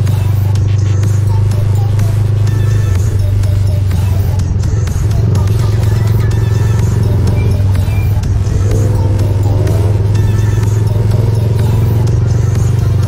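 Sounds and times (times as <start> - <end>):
wavering high-pitched sound: 0.0 - 12.2
motorcycle engine cruising: 0.0 - 13.0
traffic noise: 0.0 - 13.0.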